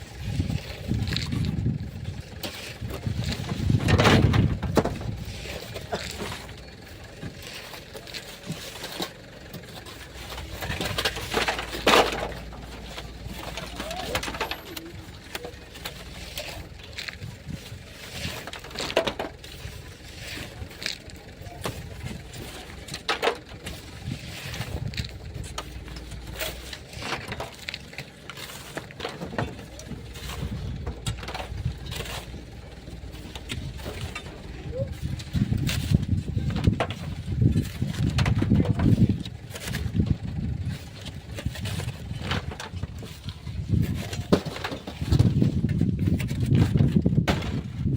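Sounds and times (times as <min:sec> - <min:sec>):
hand digging in sand and stones: 0:00.0 - 0:47.9.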